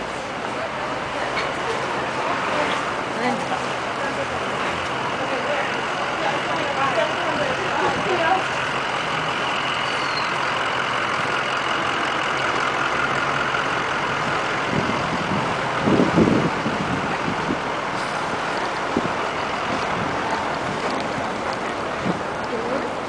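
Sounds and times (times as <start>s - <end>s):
road traffic rushing: 0.0s - 23.0s.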